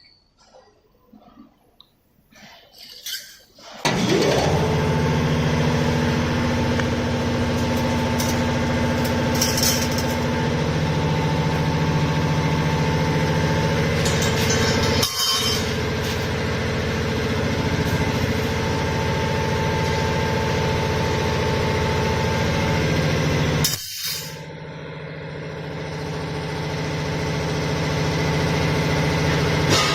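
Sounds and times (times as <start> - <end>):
welding machine low hum: 3.9 - 29.9.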